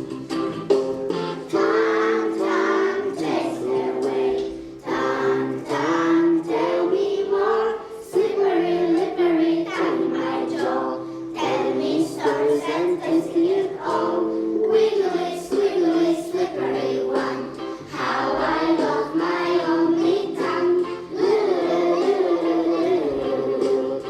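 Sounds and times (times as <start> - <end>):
instrumental backing music: 0.0 - 24.0
children singing in unison: 1.5 - 24.0.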